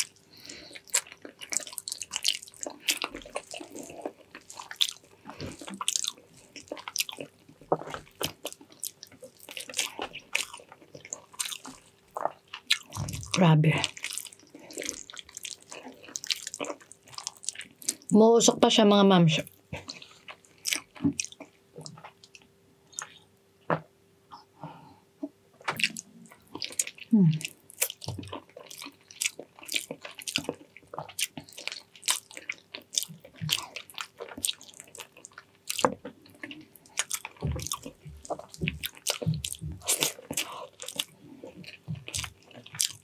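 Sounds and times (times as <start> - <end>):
wet chewing and lip-smacking: 0.0 - 18.1, 19.4 - 23.2, 25.6 - 43.0
faint steady hum: 0.0 - 43.0.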